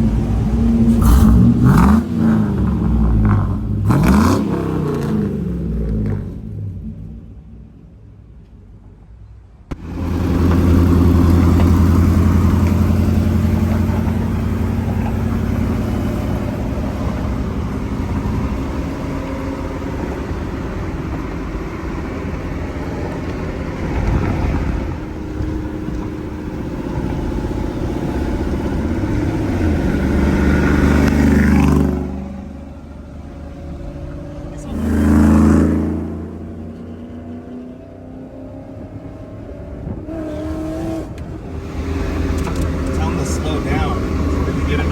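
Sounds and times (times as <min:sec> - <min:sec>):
pickup engine starting: 0:00.0 - 0:07.7, 0:09.7 - 0:37.7, 0:38.5 - 0:44.9
deep exhaust note: 0:00.0 - 0:08.0, 0:09.7 - 0:44.9.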